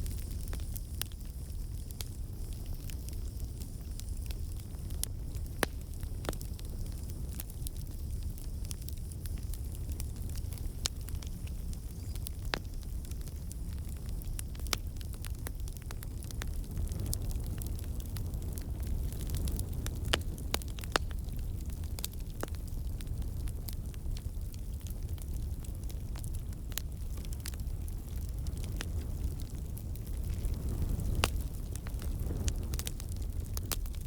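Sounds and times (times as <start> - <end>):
burning wood crackling and popping: 0.0 - 34.0
campfire rumbling: 0.0 - 34.0.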